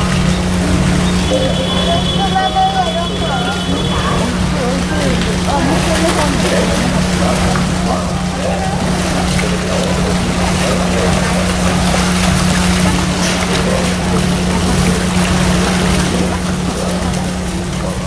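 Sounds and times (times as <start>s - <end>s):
low mechanical hum: 0.0s - 18.0s
water noise: 0.0s - 18.0s
water splashing off bear: 0.0s - 18.0s.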